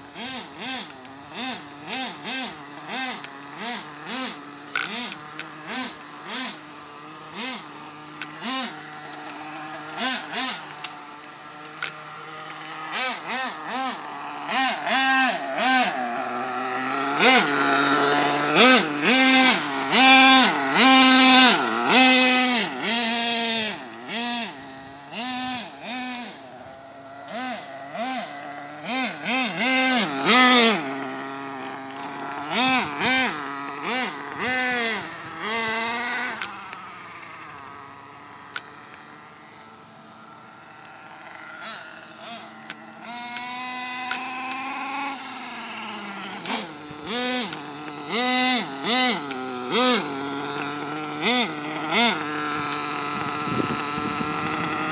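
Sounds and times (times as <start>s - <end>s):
small nitro engine revving: 0.0s - 54.9s.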